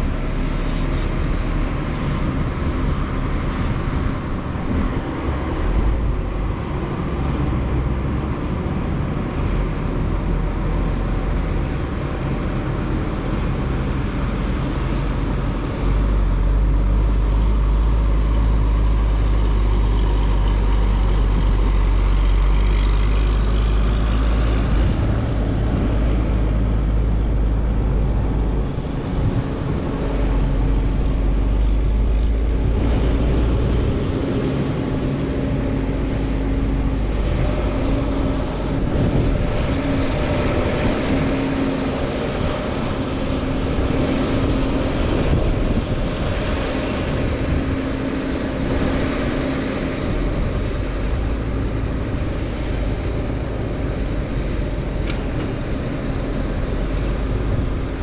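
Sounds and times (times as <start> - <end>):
diesel machinery rumbling: 0.0 - 58.0
machinery whine: 0.0 - 58.0.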